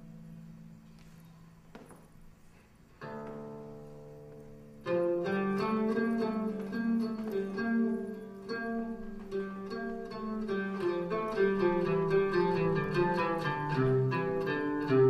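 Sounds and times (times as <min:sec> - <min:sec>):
plucked string instrument: 0:02.9 - 0:15.0.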